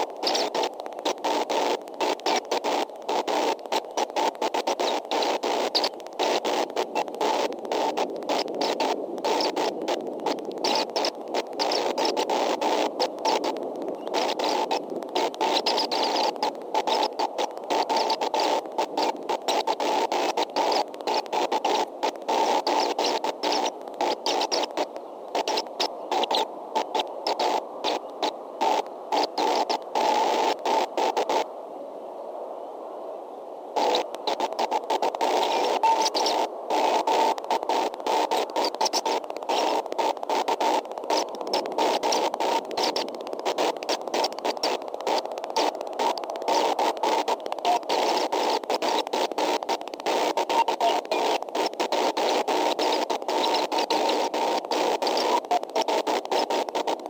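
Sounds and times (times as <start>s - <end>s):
choppy microphone hiss: 0.0s - 57.0s
static noise: 0.0s - 57.0s.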